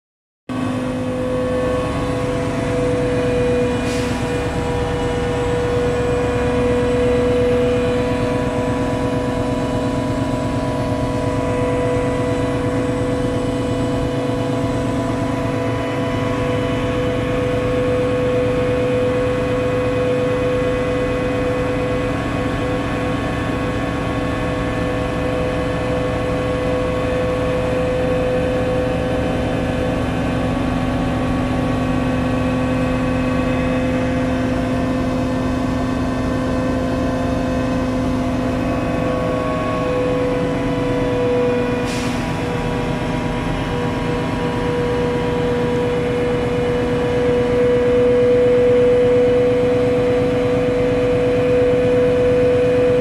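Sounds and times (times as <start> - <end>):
crane diesel engine running: 0.5 - 53.0
steady hydraulic whine: 0.5 - 53.0.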